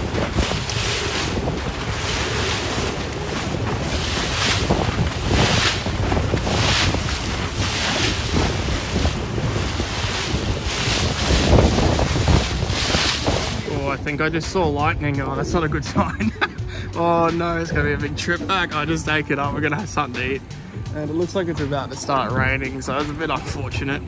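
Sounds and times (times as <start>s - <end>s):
waves splashing around boat: 0.0s - 24.0s
wind buffeting microphone: 0.0s - 24.0s.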